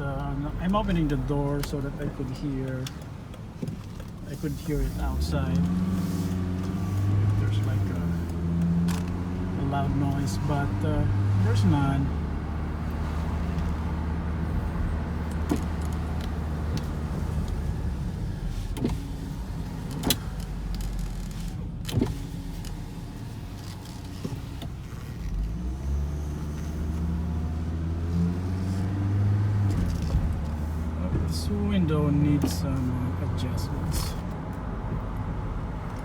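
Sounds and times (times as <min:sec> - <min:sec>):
car engine droning: 0:00.0 - 0:36.0.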